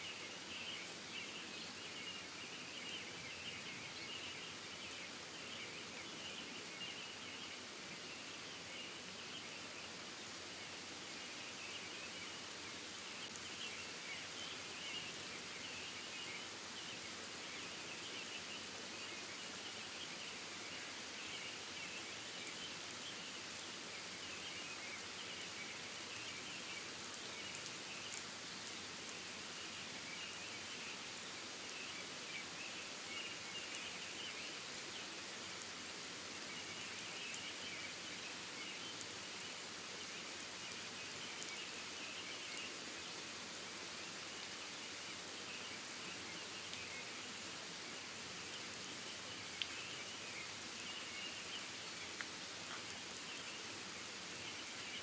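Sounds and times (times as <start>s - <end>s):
rain hiss: 0.0s - 55.0s.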